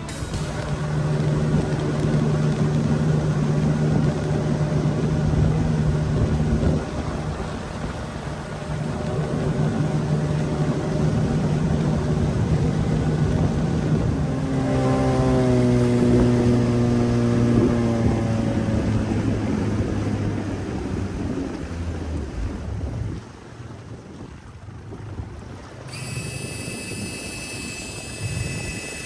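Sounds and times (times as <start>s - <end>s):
outboard motor running: 0.0s - 29.0s
water noise: 0.0s - 29.0s
wind: 0.0s - 29.0s.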